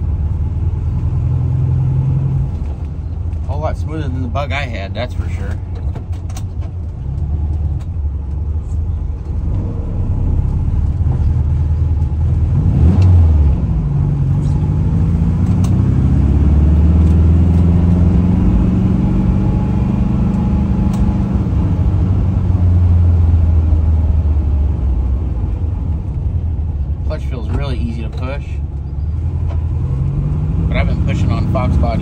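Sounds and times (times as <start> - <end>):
car engine accelerating: 0.0 - 3.6, 5.2 - 32.0.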